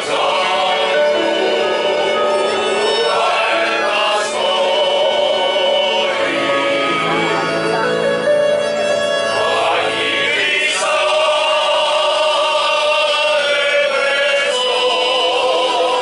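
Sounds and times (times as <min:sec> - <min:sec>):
male choir singing: 0:00.0 - 0:07.6, 0:09.2 - 0:16.0.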